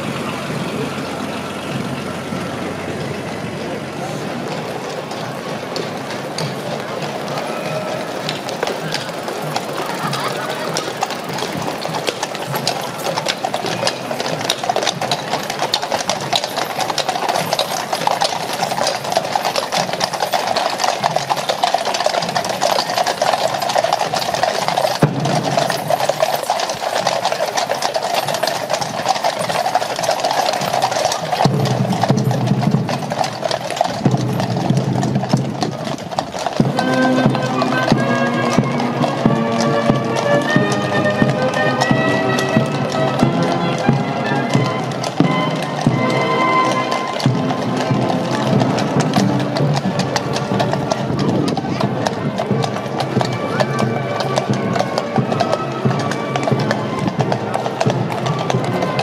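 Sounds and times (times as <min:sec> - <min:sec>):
horse hooves on wet pavement: 0:00.0 - 0:59.0.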